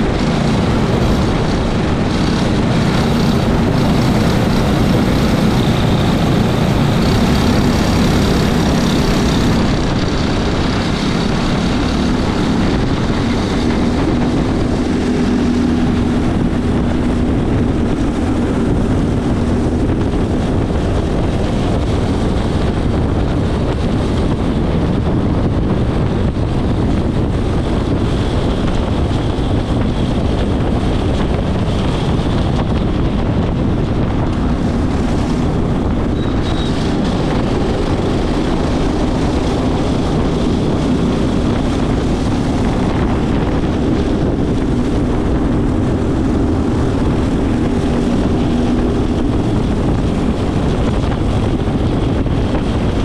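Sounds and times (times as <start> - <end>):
go-kart engine droning: 0.0 - 53.0
wind buffeting microphone: 0.0 - 53.0.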